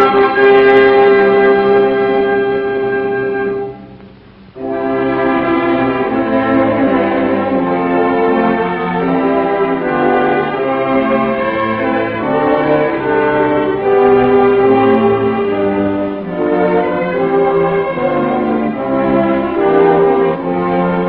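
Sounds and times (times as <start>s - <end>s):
orchestral music led by brass: 0.0s - 4.0s, 4.6s - 21.0s.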